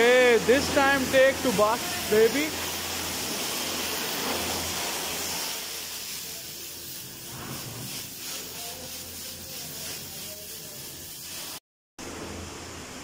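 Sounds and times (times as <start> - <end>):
pressure washer spraying water: 0.0 - 11.6.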